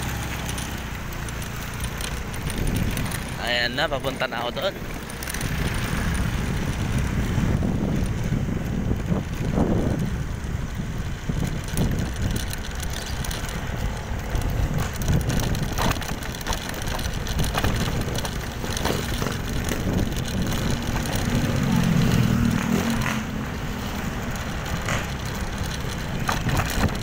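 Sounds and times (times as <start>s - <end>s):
motorcycle engine rumble: 0.0s - 27.0s
wind buffeting microphone: 0.0s - 27.0s.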